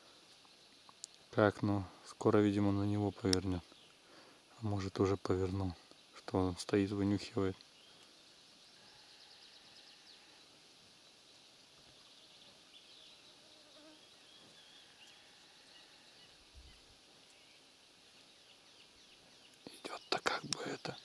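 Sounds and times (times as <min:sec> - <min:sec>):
distant bird chirps: 0:00.0 - 0:21.0
insects buzzing: 0:00.0 - 0:21.0.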